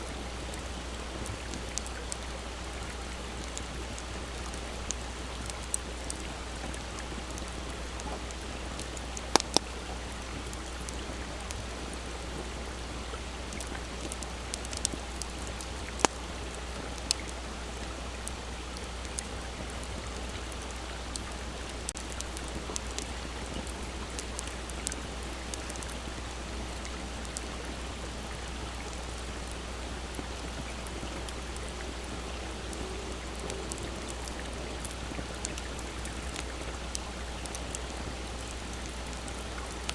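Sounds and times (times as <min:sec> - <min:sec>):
small stream rushing: 0:00.0 - 0:39.9
campfire crackling and popping: 0:00.1 - 0:39.9.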